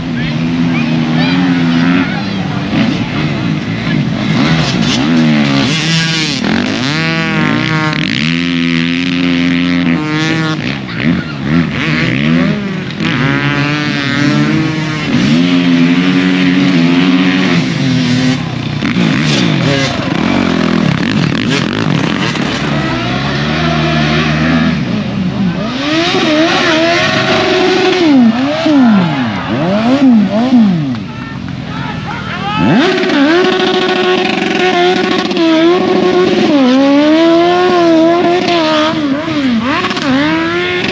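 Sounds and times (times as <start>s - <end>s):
motorcycle engines revving: 0.0s - 40.9s.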